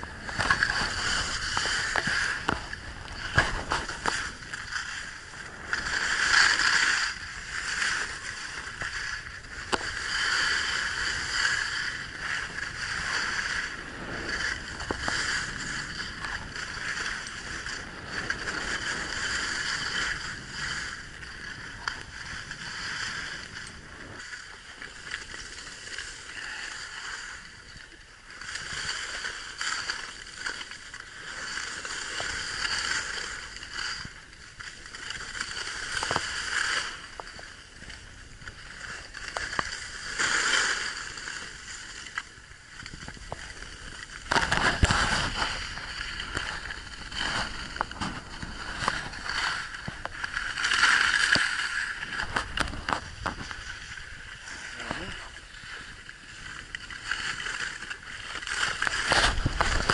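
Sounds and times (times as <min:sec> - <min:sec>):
skis scraping over snow: 0:00.0 - 0:59.9.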